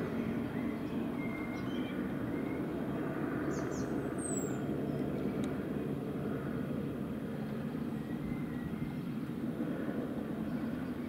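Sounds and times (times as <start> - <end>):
distant helicopter rumble: 0.0 - 11.0.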